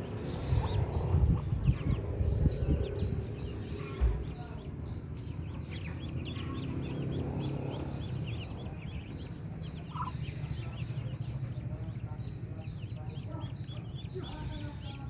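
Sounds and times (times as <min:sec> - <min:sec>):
ducklings peeping: 0:00.0 - 0:15.0
steady low hum: 0:00.0 - 0:15.0.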